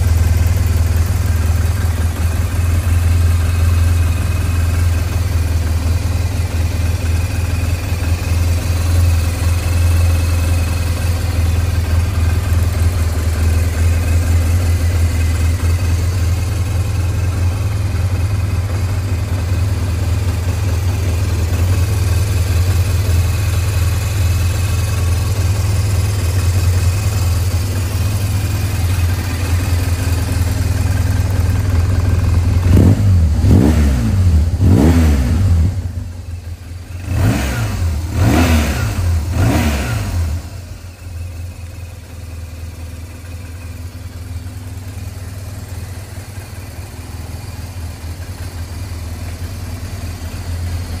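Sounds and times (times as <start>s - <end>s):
motorcycle engine idling and revving: 0.0s - 51.0s.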